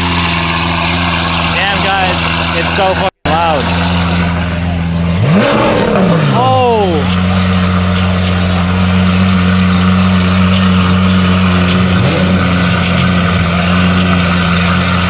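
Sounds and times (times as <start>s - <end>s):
car engine running at steady revs: 0.0s - 15.0s.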